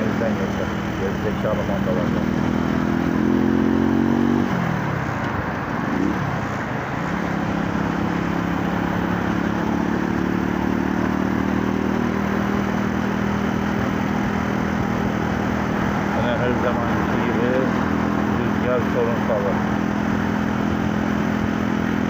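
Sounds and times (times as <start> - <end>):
small motorcycle engine: 0.0 - 4.6, 7.0 - 22.0.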